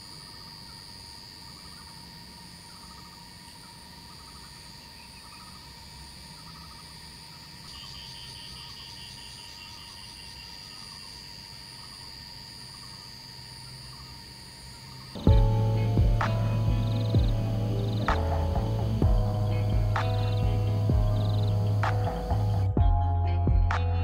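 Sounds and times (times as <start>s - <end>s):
fast ticking insect trill: 0.0s - 22.7s
short insect chirps: 0.0s - 22.7s
pulsing insect buzz: 0.0s - 22.8s
shrill insect trill: 0.0s - 24.0s.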